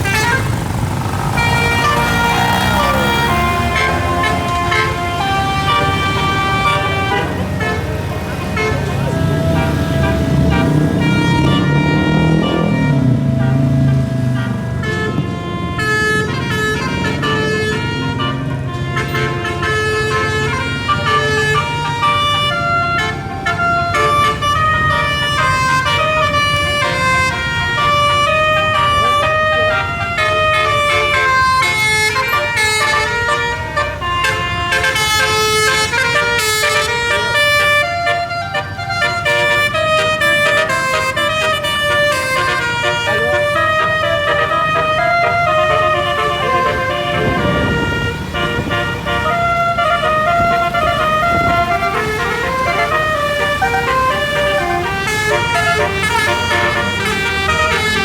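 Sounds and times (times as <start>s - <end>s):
air-horn trumpets playing a tune: 0.0s - 58.0s
bus engine rumble: 0.0s - 58.0s.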